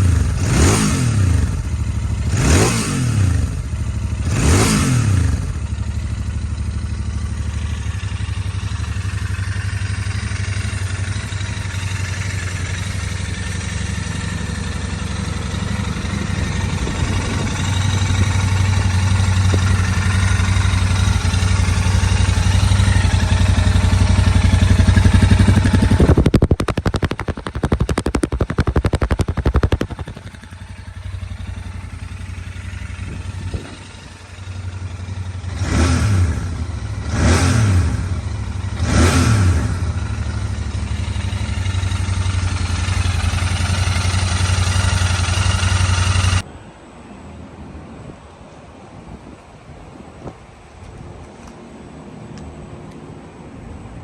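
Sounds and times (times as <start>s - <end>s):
engine throttle blips: 0.0s - 46.5s
motorcycle engine idling: 0.0s - 46.5s.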